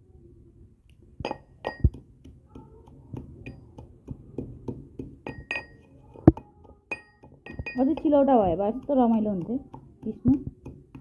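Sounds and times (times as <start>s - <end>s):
pestle clinking against mortar: 1.2s - 11.0s.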